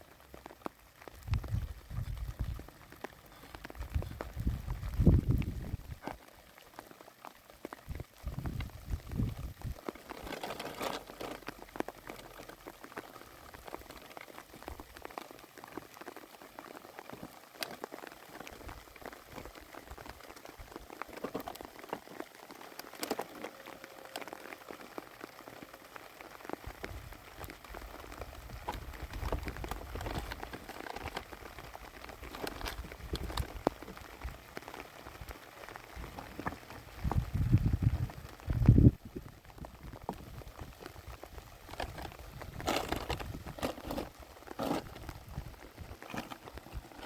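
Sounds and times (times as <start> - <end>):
rain pattering: 0.0 - 47.0.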